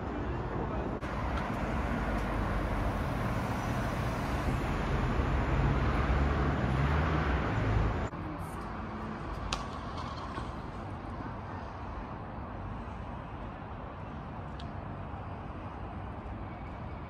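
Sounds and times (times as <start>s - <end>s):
passing vehicles rumble: 0.0s - 17.0s
street background: 0.0s - 17.0s.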